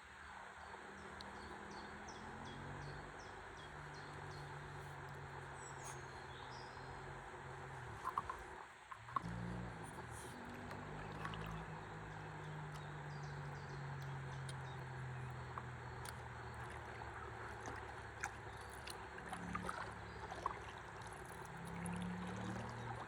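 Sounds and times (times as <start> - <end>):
faint low hum: 0.0 - 23.0
river water trickling and gurgling: 0.0 - 23.0
small drips and ticks: 0.4 - 23.0.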